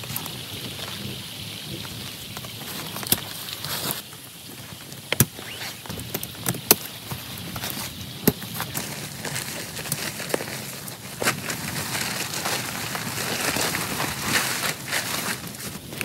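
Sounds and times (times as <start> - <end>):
large raindrops tapping: 0.0 - 16.0
rain falling: 0.0 - 16.0.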